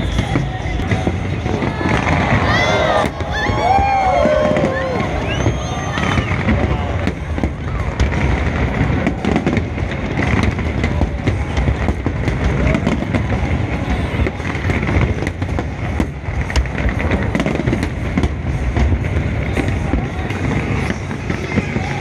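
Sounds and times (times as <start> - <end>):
fireworks bursting: 0.0 - 22.0
sharp firework cracks: 0.0 - 22.0.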